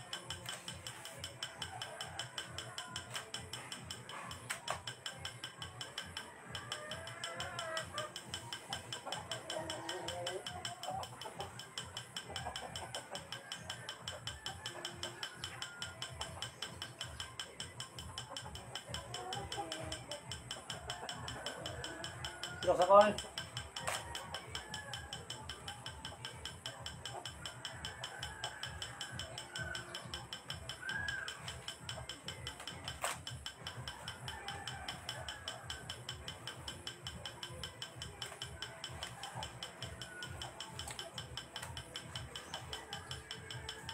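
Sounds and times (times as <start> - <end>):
fast mechanical ticking: 0.0 - 43.9.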